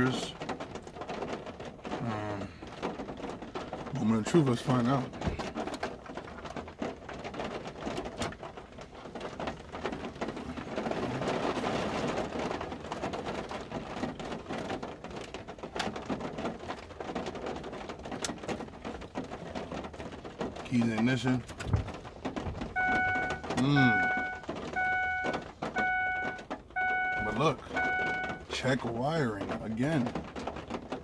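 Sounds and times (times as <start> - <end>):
rain on vehicle roof: 0.0 - 31.0.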